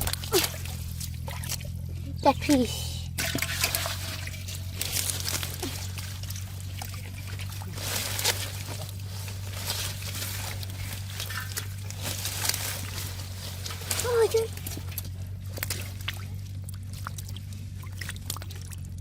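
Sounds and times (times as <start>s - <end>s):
hands splashing shallow water: 0.0s - 1.9s, 3.2s - 19.0s
steady low hum: 0.0s - 19.0s.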